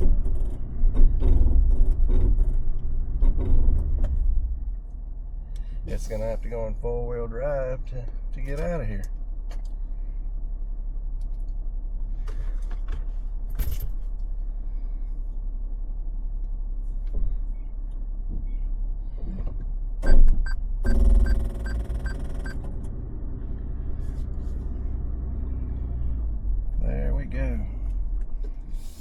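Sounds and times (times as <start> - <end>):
engine running low: 0.0 - 29.0.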